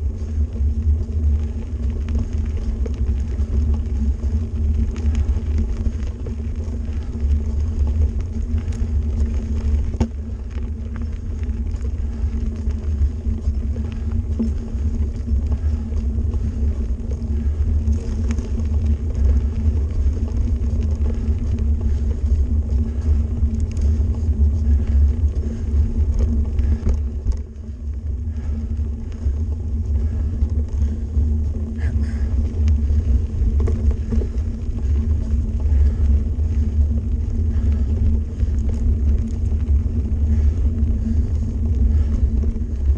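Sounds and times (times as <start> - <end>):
bike tyres on gravel: 0.0 - 42.9
gravel clicks: 0.0 - 42.9
wind rumble on microphone: 0.0 - 42.9.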